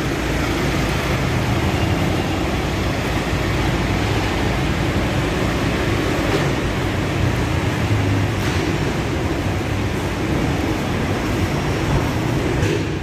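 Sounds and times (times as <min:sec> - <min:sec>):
low machine and engine hum: 0:00.0 - 0:13.0.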